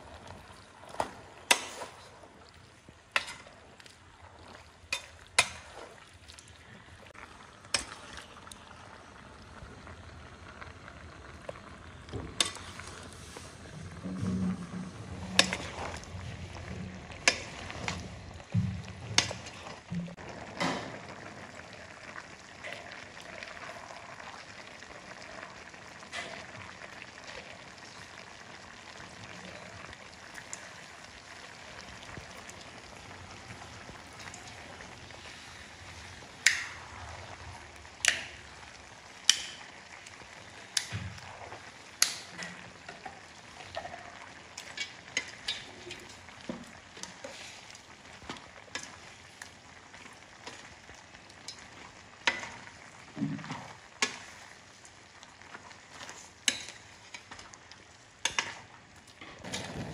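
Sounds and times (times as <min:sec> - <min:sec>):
beef sizzling in pot: 0:00.0 - 0:59.9.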